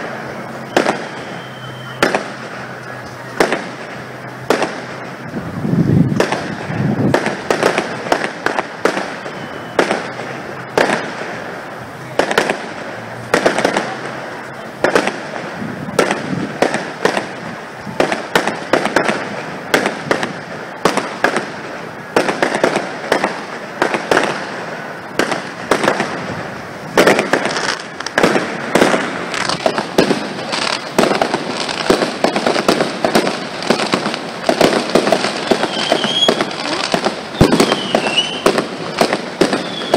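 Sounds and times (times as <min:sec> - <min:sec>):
firework shell bursts: 0:00.0 - 0:05.3, 0:06.0 - 0:39.9
firework crackling: 0:00.0 - 0:39.9.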